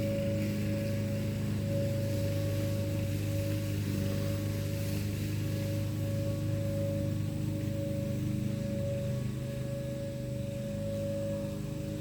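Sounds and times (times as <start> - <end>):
low steady hum: 0.0 - 12.0
warning siren steady tone: 0.0 - 12.0.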